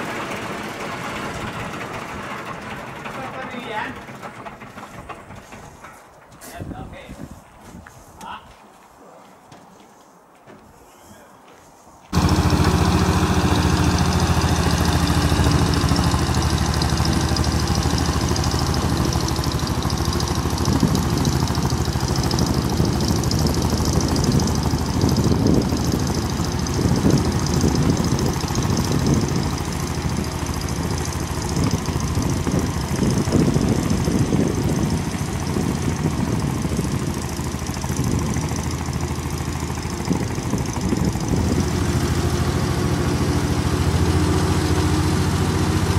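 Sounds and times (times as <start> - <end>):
tow tractor engine running: 0.0 - 6.2, 12.1 - 45.9.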